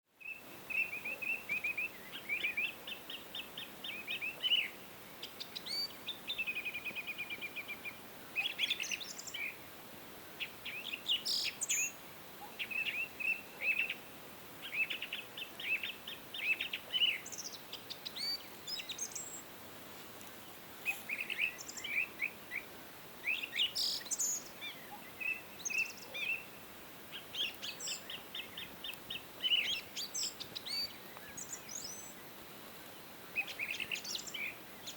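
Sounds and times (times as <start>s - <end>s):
faint steady hiss: 0.1s - 34.9s
songbirds chirping and whistling: 0.2s - 9.6s, 10.4s - 19.5s, 20.9s - 34.9s.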